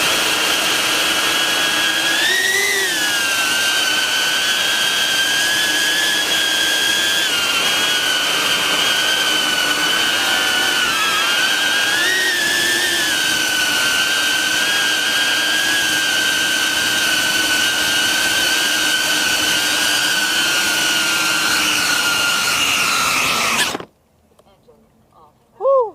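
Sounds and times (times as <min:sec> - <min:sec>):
drone propellers whining: 0:00.0 - 0:23.9.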